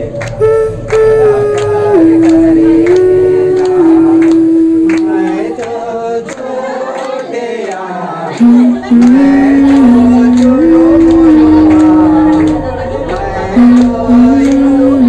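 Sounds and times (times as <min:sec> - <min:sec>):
sharp beats: 0:00.0 - 0:05.6, 0:08.4 - 0:15.0
group of people singing: 0:01.3 - 0:15.0.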